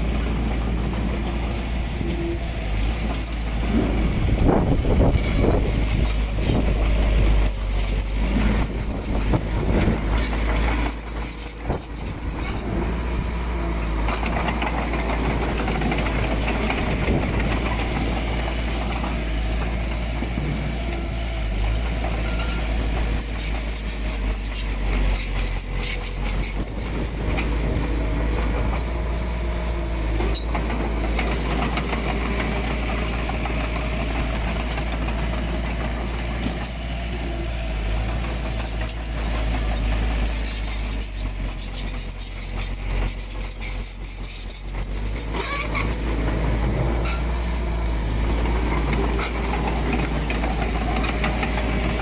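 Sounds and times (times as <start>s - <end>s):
diesel engine rumbling: 0.0s - 52.0s.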